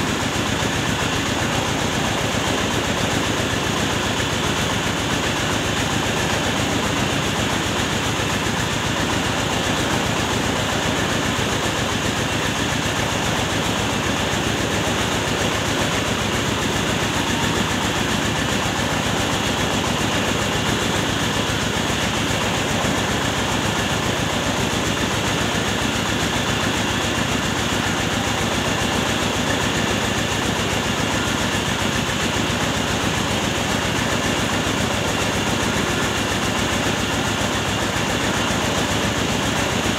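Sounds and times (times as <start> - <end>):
rice mill machinery droning: 0.0 - 39.9.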